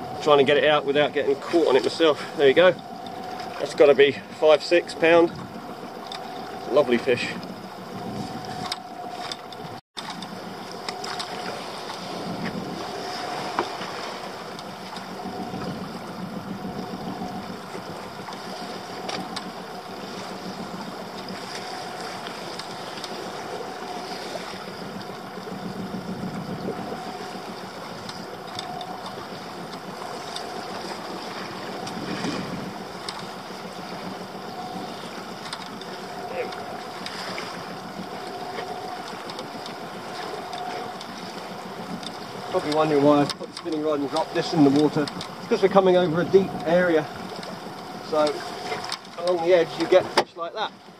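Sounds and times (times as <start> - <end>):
boat engine low hum: 0.0 - 50.9
water washing against hull: 0.0 - 50.9
wind: 0.0 - 50.9.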